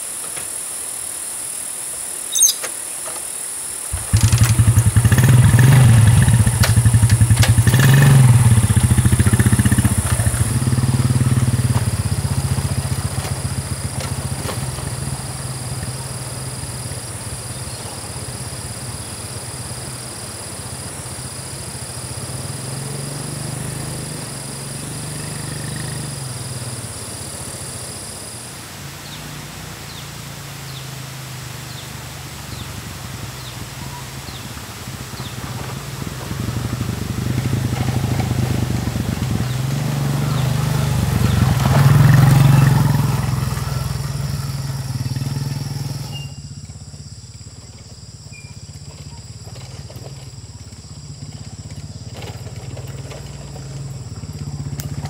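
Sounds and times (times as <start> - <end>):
small motorcycle engine: 3.8 - 55.0.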